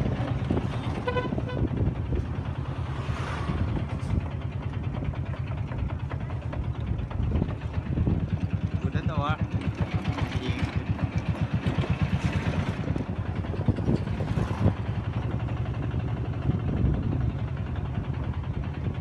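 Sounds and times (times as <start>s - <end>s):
small engine chugging: 3.6s - 19.0s.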